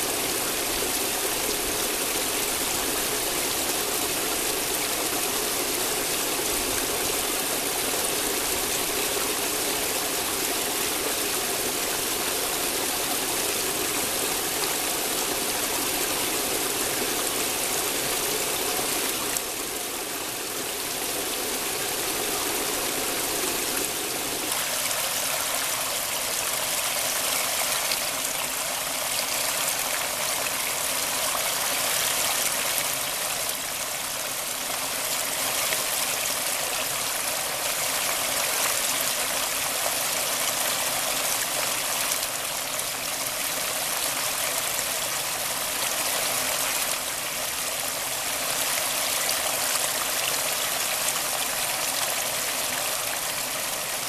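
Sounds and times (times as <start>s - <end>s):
stream water rushing over log: 0.0s - 54.0s.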